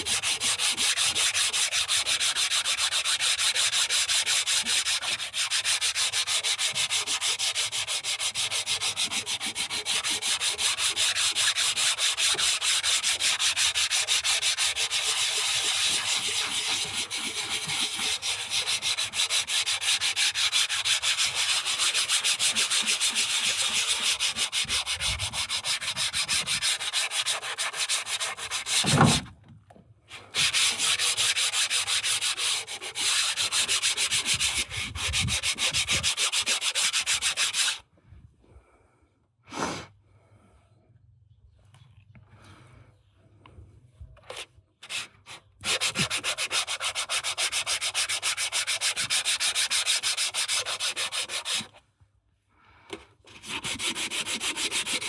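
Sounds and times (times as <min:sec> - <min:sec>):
hand sanding strokes: 0:00.0 - 0:29.2, 0:30.2 - 0:37.8, 0:44.8 - 0:51.8, 0:53.3 - 0:55.0.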